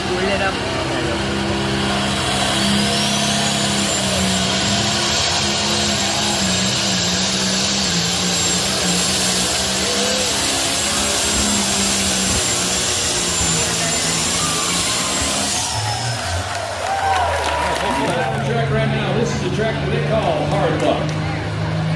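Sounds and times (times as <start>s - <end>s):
tractor engine running loud: 0.0s - 21.9s.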